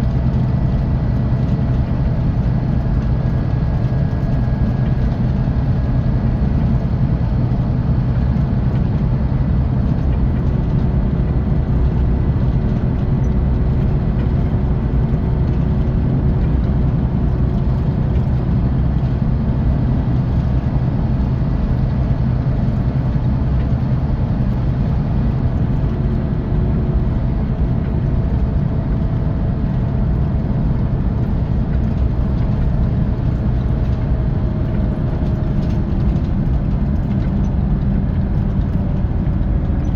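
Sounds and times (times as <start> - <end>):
bus engine and tyre hum: 0.0 - 39.9.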